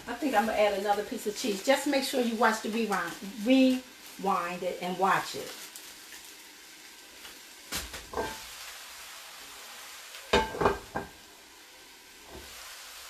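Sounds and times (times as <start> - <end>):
food sizzling in skillet: 0.0 - 13.0.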